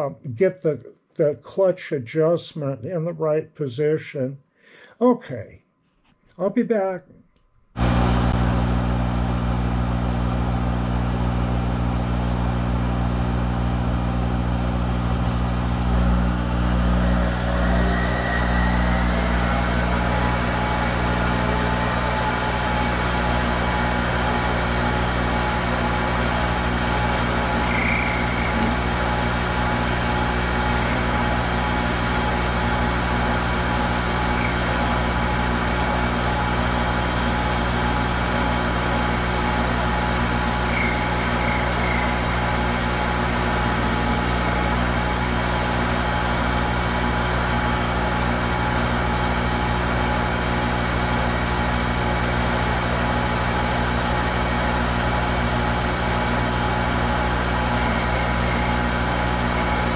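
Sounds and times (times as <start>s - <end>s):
electric motor humming: 7.8s - 59.9s.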